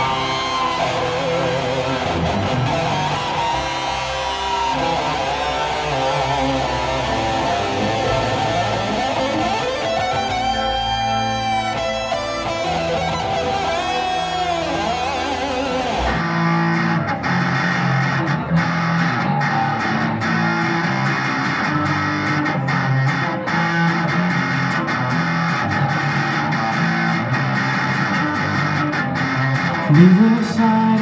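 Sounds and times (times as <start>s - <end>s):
electric guitar riff: 0.0s - 31.0s.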